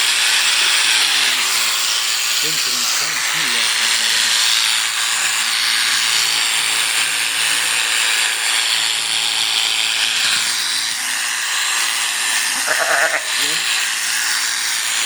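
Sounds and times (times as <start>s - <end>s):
electric sheep-shearing clippers: 0.0s - 15.0s.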